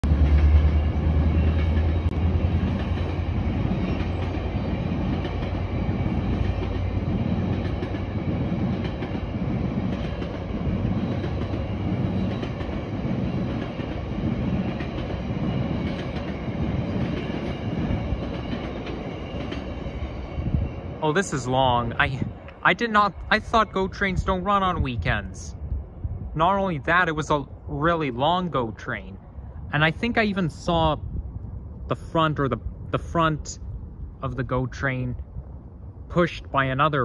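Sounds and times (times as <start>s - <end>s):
deep train rumble: 0.0s - 37.0s.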